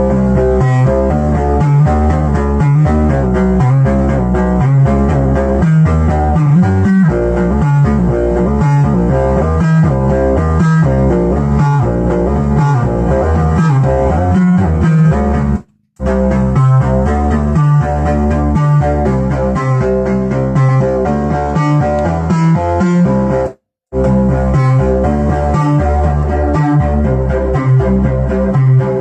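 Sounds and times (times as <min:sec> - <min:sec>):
pulsing synth bass line: 0:00.0 - 0:29.0.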